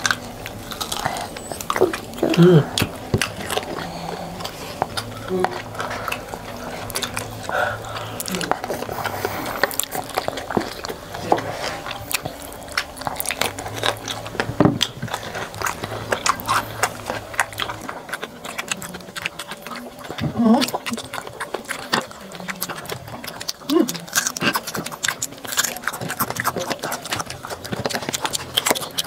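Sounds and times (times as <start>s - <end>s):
chewing and slurping noodles: 0.0s - 29.0s
low steady hum: 0.0s - 29.0s.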